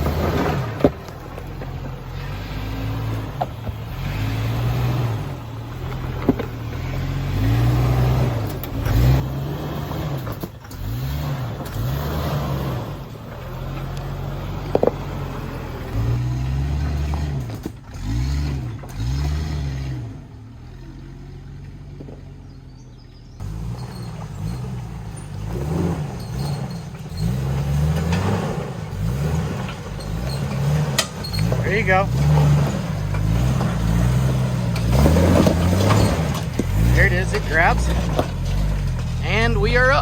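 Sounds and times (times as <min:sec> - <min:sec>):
engine revving: 0:00.0 - 0:40.0.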